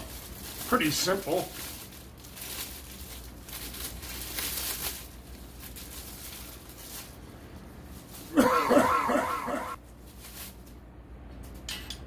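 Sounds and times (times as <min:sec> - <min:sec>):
plastic wrapping rustling: 0:00.0 - 0:10.9.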